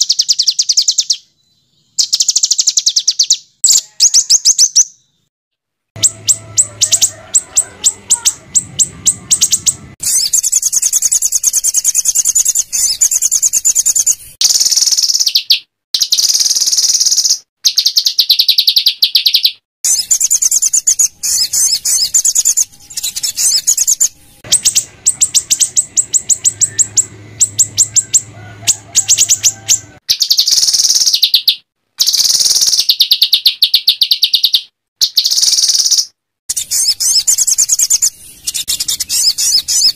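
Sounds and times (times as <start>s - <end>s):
songbird chattering trills: 6.0s - 39.9s.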